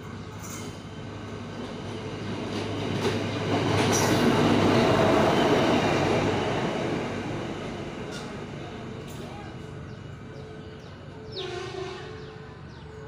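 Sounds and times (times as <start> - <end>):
rail vehicle wheels rumbling: 0.0 - 13.0.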